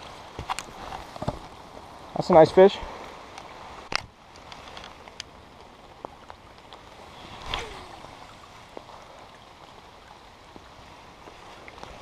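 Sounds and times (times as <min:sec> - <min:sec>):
light rain on a pond: 0:00.0 - 0:12.0.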